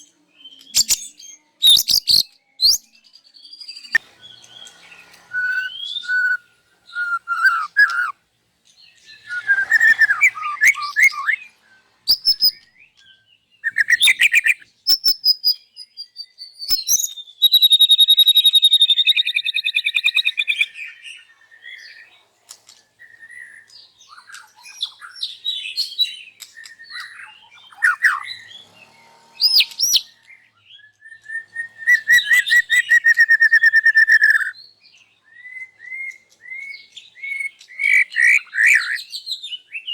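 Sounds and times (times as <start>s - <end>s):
songbird singing varied phrases: 0.0s - 8.2s, 8.8s - 22.2s, 22.9s - 39.9s.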